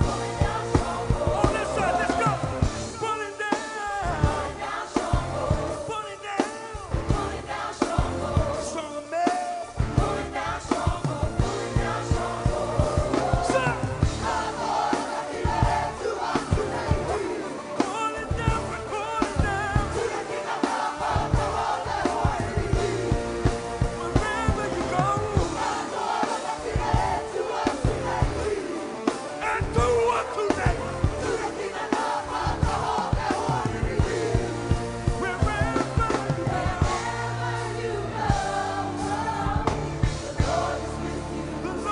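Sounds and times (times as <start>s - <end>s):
group singing and shouting: 0.0s - 41.9s.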